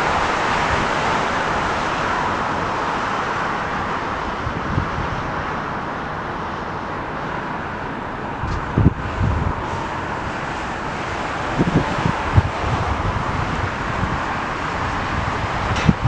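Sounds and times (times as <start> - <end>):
background traffic and airport noise: 0.0 - 16.0
wind buffeting microphone: 0.0 - 16.0.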